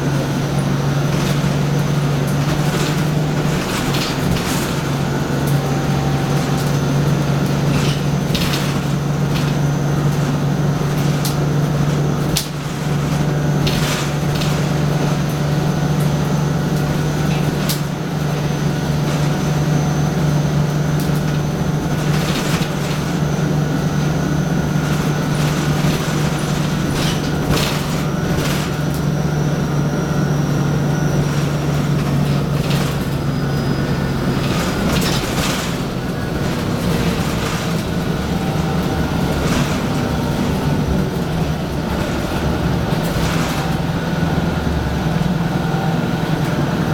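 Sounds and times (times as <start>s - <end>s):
bus diesel engine drone: 0.0s - 46.9s
rattles: 1.0s - 33.4s, 34.2s - 44.4s.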